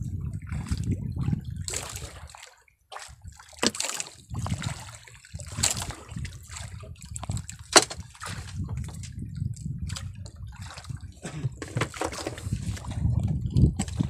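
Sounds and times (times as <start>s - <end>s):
water splashing against boat: 0.0s - 14.0s.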